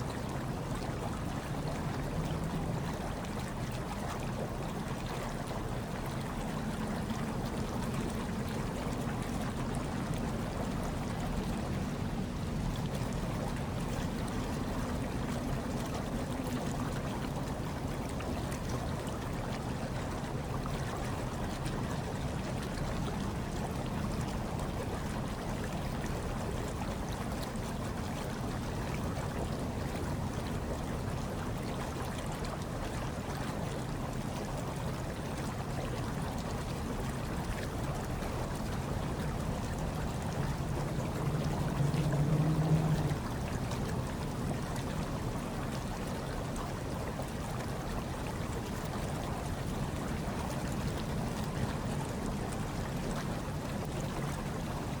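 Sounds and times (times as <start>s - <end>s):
hot tub water bubbling: 0.0s - 55.0s.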